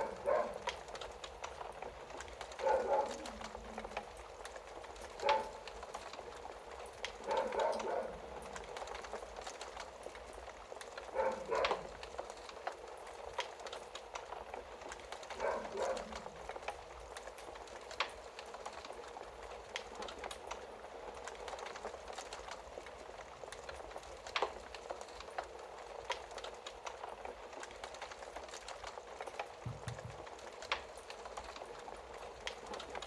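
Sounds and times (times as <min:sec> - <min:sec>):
loud fire snaps: 0:00.0 - 0:33.0
wood fire crackling: 0:00.0 - 0:33.0.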